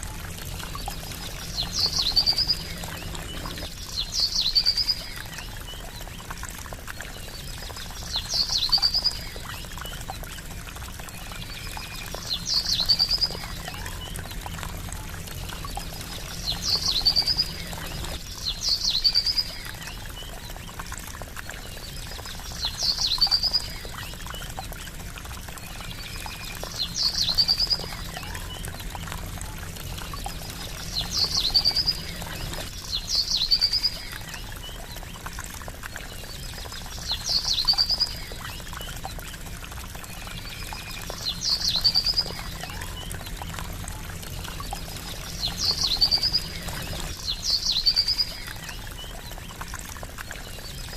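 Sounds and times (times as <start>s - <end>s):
water trickling: 0.0s - 50.9s.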